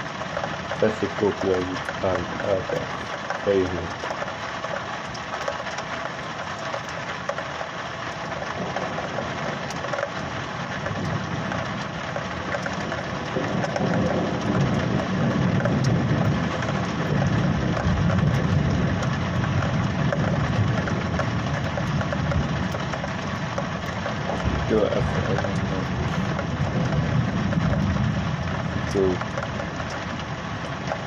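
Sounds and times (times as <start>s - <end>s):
rumble of thunder: 0.0s - 7.4s, 8.1s - 31.0s
steady rain: 0.0s - 31.0s.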